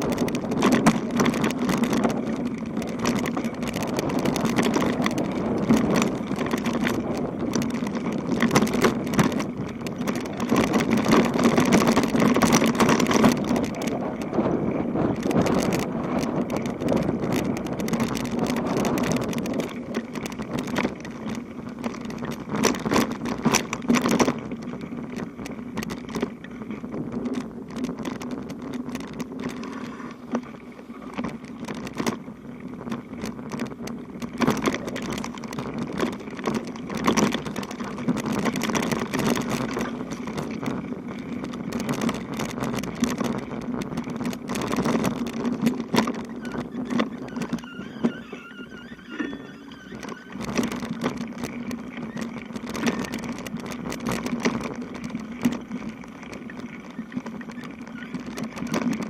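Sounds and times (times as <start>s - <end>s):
bicycle rattles and clicks: 0.0s - 59.0s
bicycle rolling hum: 0.0s - 59.0s.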